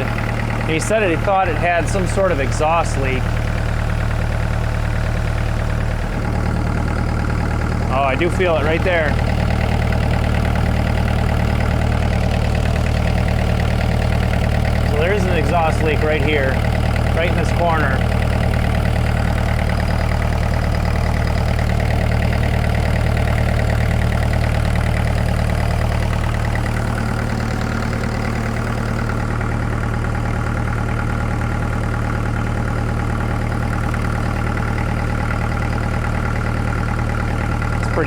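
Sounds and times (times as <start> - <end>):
excavator diesel engine idling: 0.0 - 38.0
exhaust leaking from muffler: 0.0 - 38.0.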